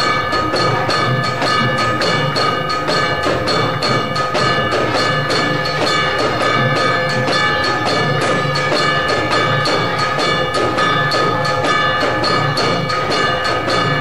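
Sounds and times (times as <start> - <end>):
bells struck: 0.0 - 14.0
drums beating: 0.0 - 14.0
metallic ringing: 0.0 - 14.0.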